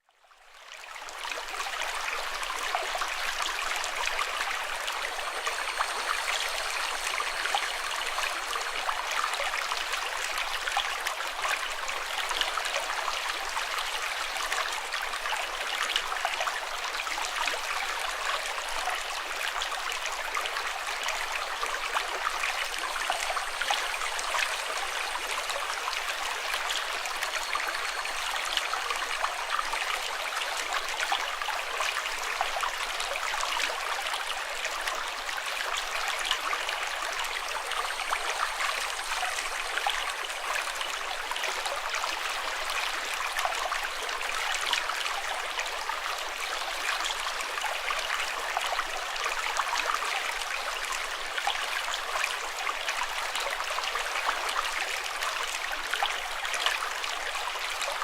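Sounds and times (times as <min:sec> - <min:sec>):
flowing water rushing: 0:00.6 - 0:58.0.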